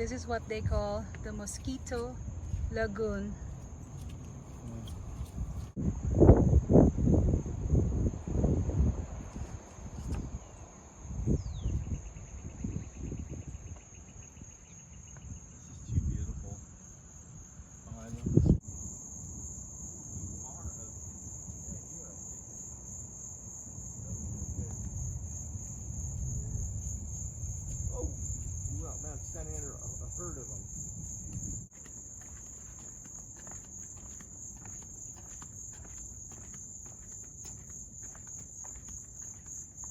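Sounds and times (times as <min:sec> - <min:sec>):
wind rumbling on microphone: 0:00.0 - 0:16.7, 0:18.0 - 0:18.7, 0:23.8 - 0:39.9.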